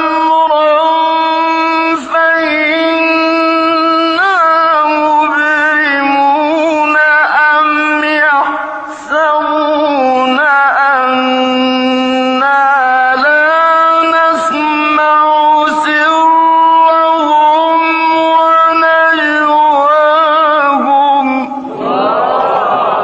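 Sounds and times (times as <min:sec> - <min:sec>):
man reciting melodically: 0:00.0 - 0:22.1.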